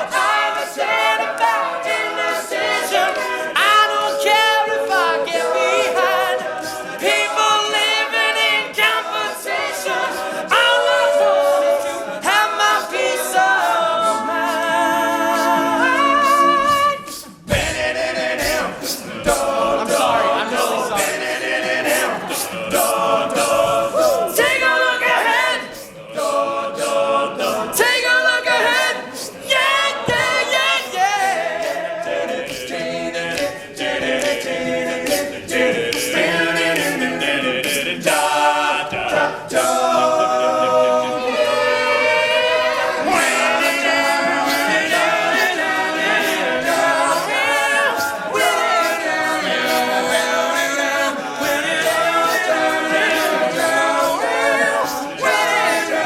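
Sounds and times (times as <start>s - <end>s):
male a cappella group singing: 0.0s - 56.0s.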